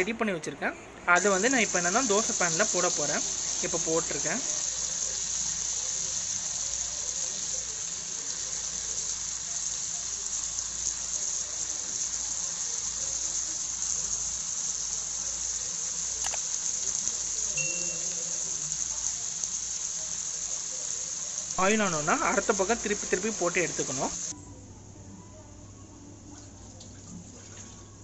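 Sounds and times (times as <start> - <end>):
butter sizzling in a pan: 1.2 - 24.3.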